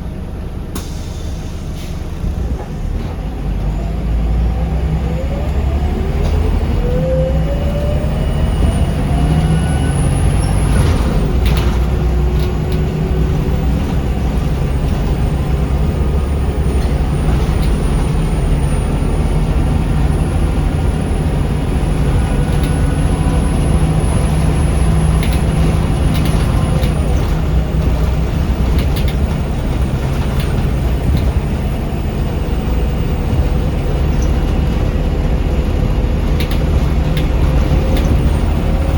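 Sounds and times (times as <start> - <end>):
bus drivetrain whine: 0.0 - 38.9
road rumble: 0.0 - 38.9.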